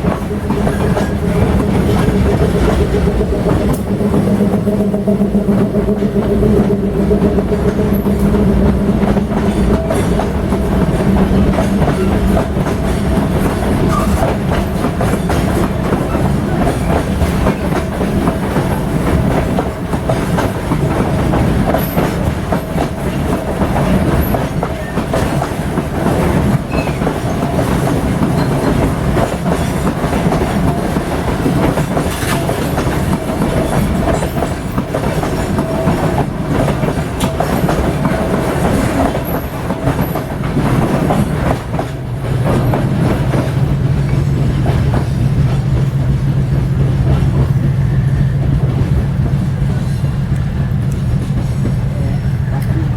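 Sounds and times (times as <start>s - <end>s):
wheels clicking over rail joints: 0.0s - 46.0s
freight wagons rumbling: 0.0s - 52.9s.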